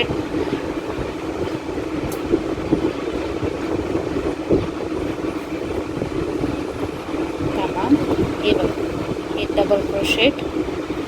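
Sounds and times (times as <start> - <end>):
mechanical rumbling: 0.0 - 11.0.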